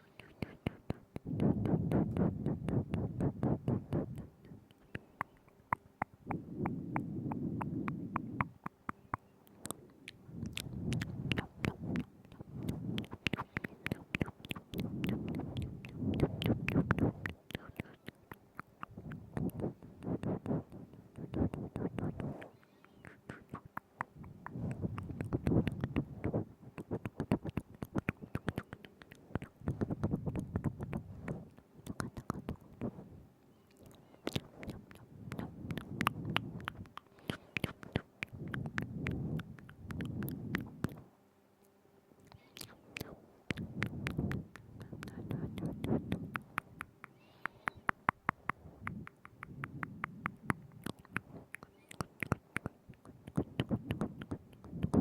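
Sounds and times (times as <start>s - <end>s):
tongue clicks and lip smacks: 0.0s - 55.0s.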